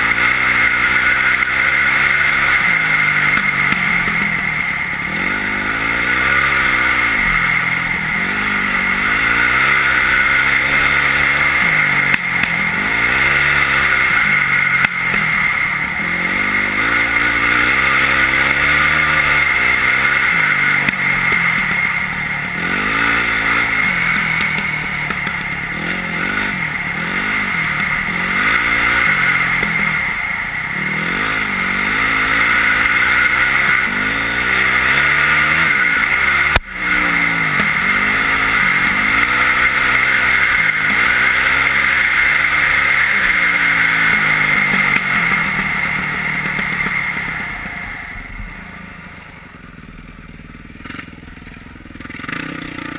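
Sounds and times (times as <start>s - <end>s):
steady rushing noise: 0.0s - 51.1s
motorcycle engine revving: 0.0s - 52.9s.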